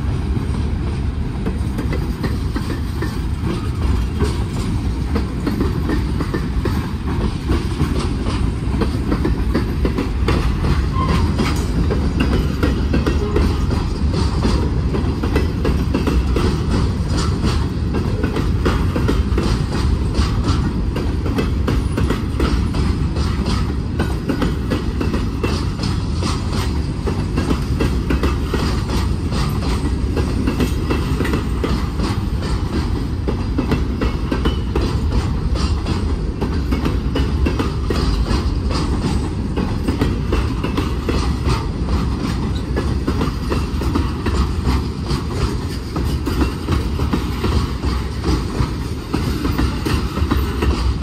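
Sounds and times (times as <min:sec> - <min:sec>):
steel wheels rumbling on rail: 0:00.0 - 0:51.0
wheels clicking over rail joints: 0:00.3 - 0:51.0.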